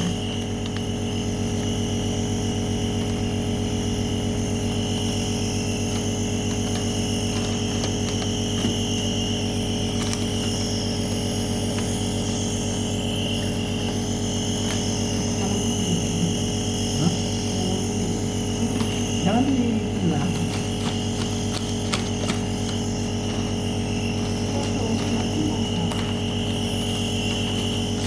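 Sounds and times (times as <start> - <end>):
small electric motor humming: 0.0 - 28.0.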